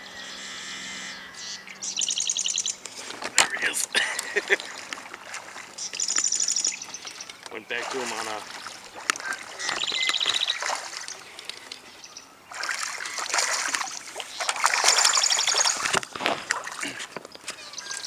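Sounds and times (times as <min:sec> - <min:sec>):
fish splashing and thrashing: 0:02.8 - 0:11.9, 0:12.5 - 0:18.0.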